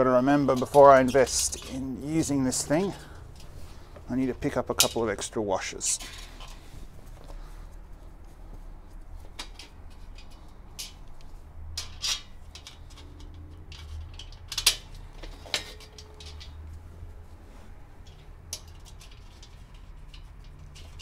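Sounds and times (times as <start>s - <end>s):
metal bolts and nuts clinking: 0.0s - 6.7s, 9.3s - 16.7s, 18.0s - 21.0s.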